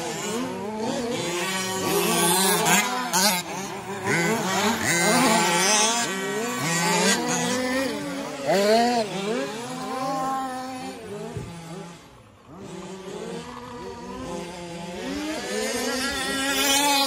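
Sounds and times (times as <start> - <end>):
radio-control truck engines revving: 0.0 - 17.0.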